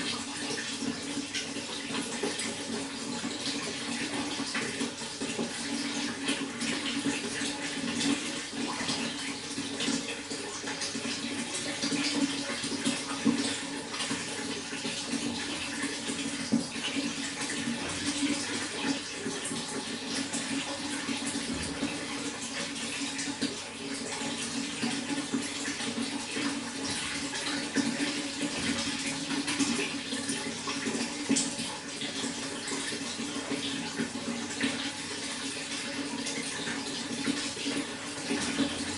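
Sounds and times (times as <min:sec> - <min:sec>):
running water with splashes: 0:00.0 - 0:38.9.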